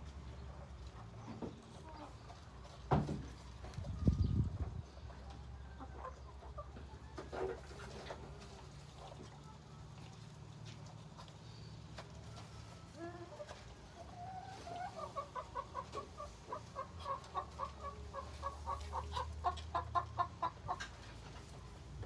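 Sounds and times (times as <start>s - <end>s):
chicken clucking: 0.0s - 22.0s.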